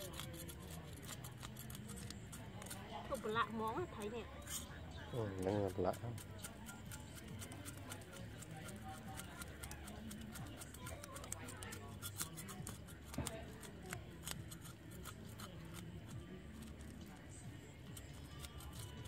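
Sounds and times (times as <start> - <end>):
knife scraping fish scales: 0.0 - 4.8, 5.7 - 17.1, 17.8 - 19.0.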